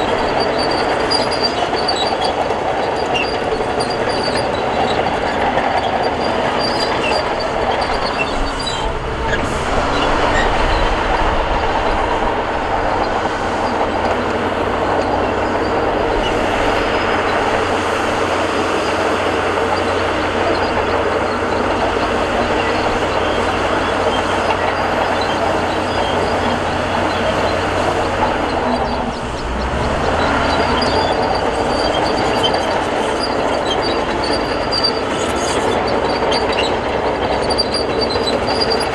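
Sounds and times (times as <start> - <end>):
crawler tracks clattering and squealing: 0.0 - 38.9
diesel engine droning: 0.0 - 38.9.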